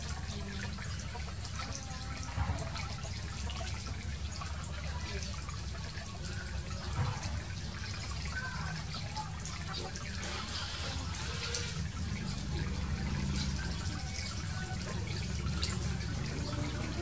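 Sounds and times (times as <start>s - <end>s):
water trickling and lapping: 0.0s - 17.0s.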